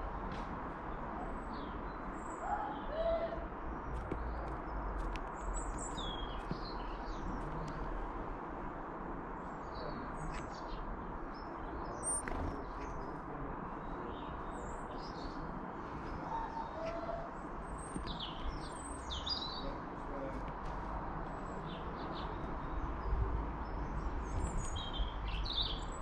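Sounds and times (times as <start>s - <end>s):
small birds chirping: 0.3s - 26.0s.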